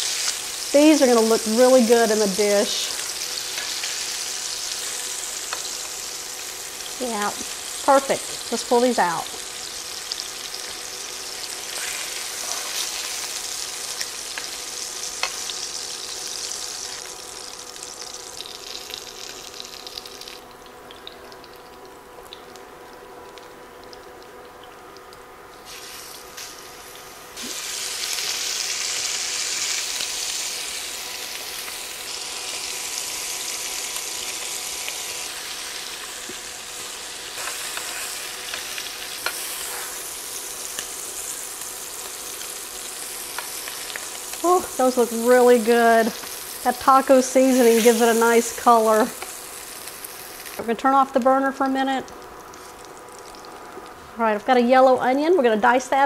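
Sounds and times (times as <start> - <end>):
meat sizzling in hot oil: 0.0 - 54.7.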